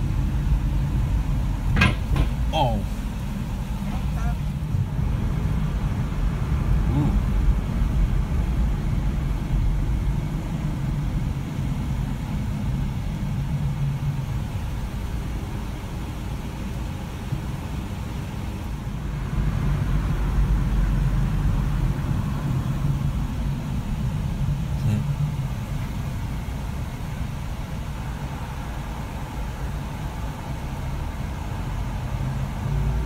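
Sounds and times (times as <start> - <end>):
car road noise: 0.0 - 33.0.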